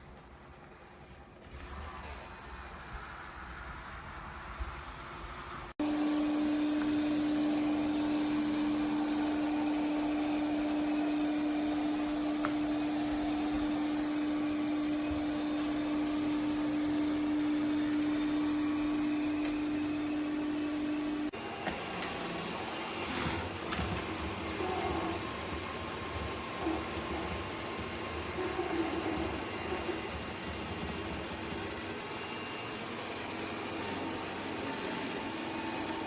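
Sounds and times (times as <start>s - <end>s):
robot vacuum motor hum: 5.8s - 36.0s.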